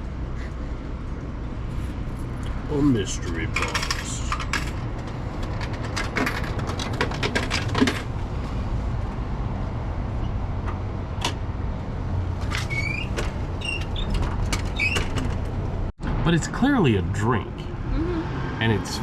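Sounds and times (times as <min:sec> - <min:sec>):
city street rumble: 0:00.0 - 0:19.0.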